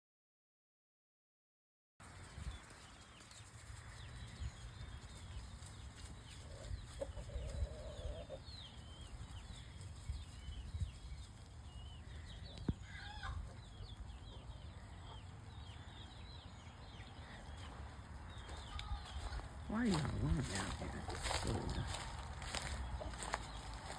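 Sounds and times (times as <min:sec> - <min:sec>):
chickens clucking and calling: 0:03.8 - 0:23.9.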